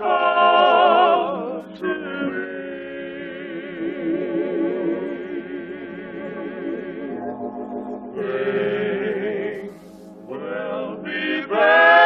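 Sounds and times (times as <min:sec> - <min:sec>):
vocal trio singing in harmony: 0:00.0 - 0:12.0.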